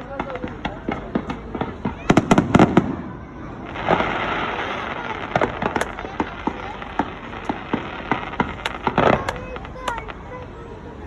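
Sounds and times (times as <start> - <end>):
fireworks bangs: 0.0 - 11.0
fireworks crackling with pops: 0.0 - 11.0.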